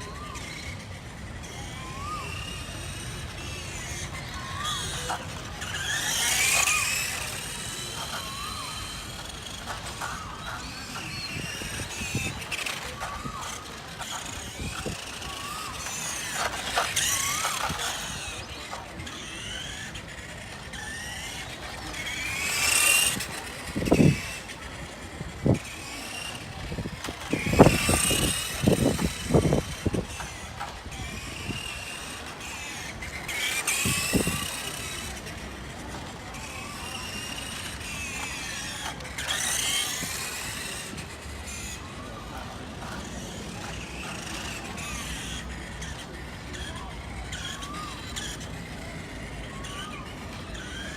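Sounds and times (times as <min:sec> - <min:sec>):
electric motor whining: 0:00.0 - 0:50.9.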